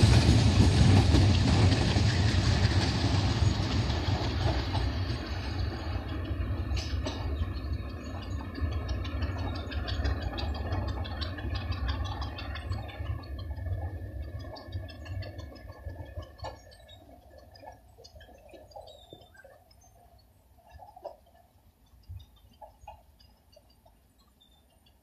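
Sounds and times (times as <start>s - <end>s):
train engine rumble: 0.0s - 25.0s
wheels clicking over rail joints: 0.0s - 25.0s.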